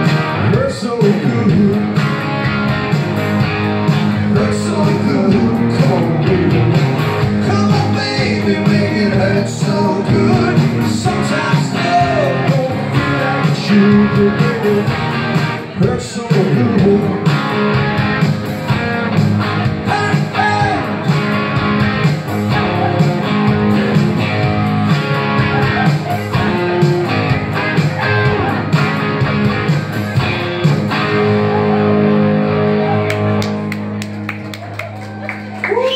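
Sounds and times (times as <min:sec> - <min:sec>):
distorted electric guitar lead: 0:00.0 - 0:35.9.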